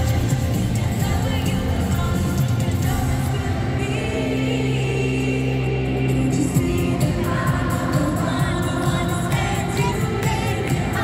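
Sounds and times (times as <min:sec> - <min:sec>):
loud pop music over sound system: 0:00.0 - 0:11.0.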